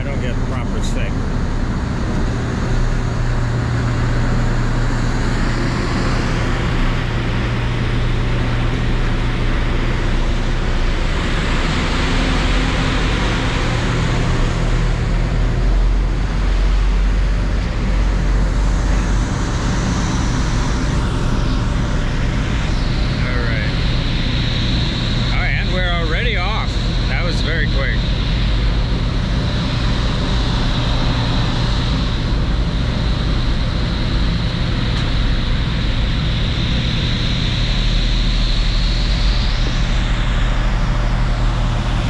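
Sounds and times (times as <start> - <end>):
ferry engines droning: 0.0 - 42.0
rushing noise: 0.0 - 42.0.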